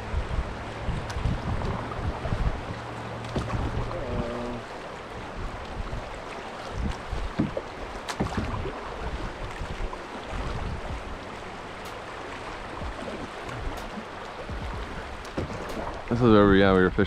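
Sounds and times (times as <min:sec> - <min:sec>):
rushing river rapids: 0:00.0 - 0:16.8
paddle knocks and splashes: 0:00.2 - 0:16.4.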